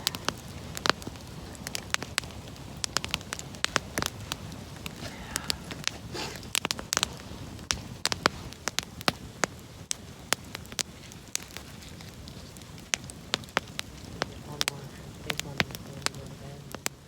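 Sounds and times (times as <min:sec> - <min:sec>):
campfire crackling and popping: 0:00.0 - 0:17.0
low steady fire hiss: 0:00.0 - 0:17.0.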